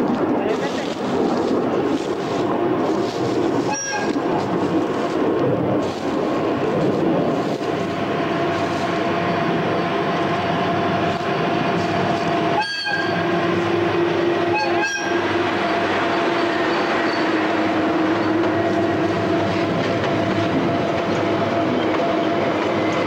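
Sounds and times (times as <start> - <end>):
diesel locomotive engine: 0.0 - 23.0
freight wagons rumbling on track: 0.0 - 23.0.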